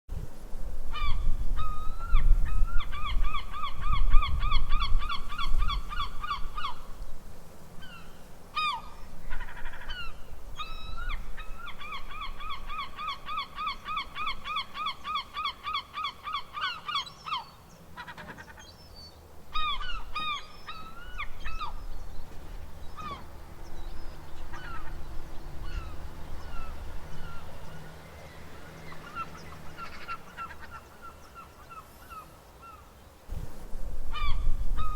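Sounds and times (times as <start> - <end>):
seagulls calling: 0.9 - 6.9, 7.8 - 33.0, 34.1 - 34.9.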